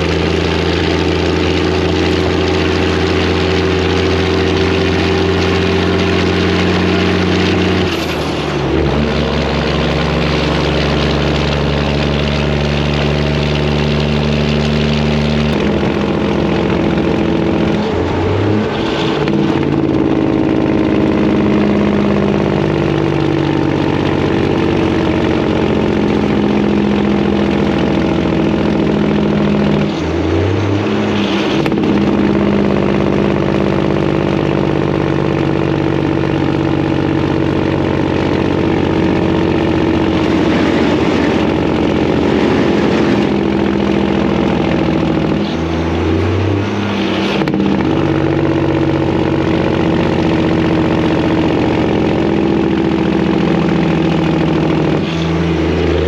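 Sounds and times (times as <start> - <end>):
loud diesel truck engine running: 0.0 - 56.0.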